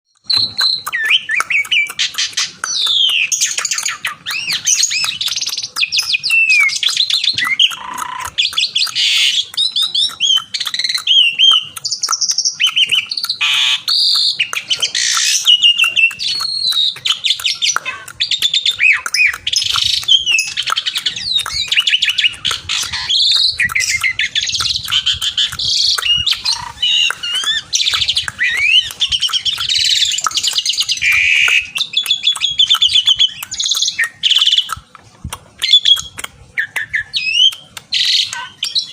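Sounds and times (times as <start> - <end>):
starling singing: 0.1 - 34.9, 35.5 - 38.9.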